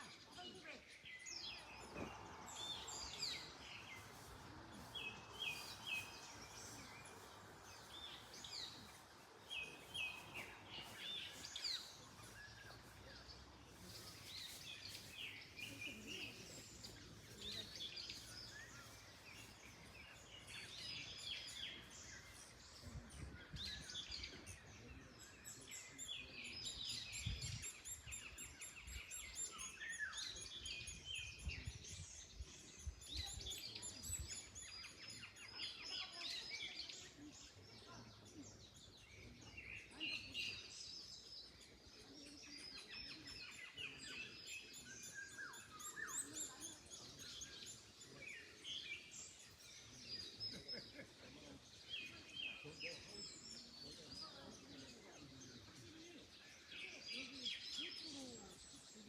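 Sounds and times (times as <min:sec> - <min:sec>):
songbirds chirping and trilling: 0:00.0 - 0:59.0
wind rustling in trees: 0:00.0 - 0:59.0.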